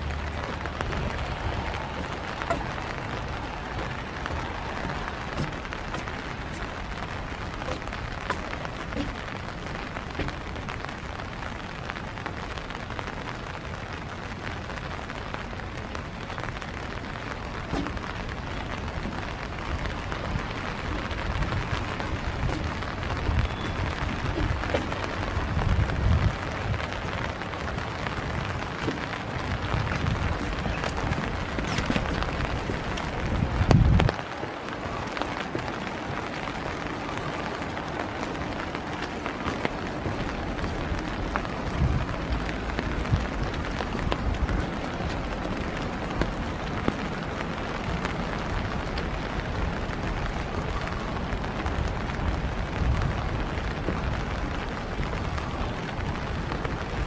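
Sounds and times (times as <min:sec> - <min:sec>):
low rumbling bumps: 0:00.0 - 0:57.0
rain falling: 0:00.0 - 0:57.0.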